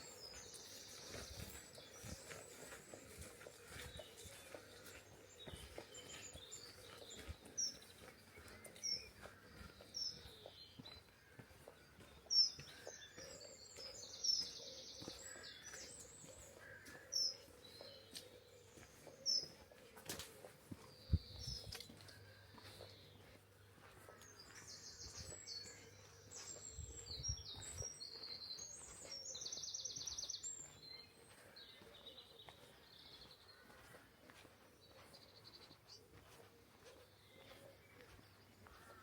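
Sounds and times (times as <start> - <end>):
faint outdoor background noise: 0.0 - 39.0
songbirds chirping: 0.0 - 39.0.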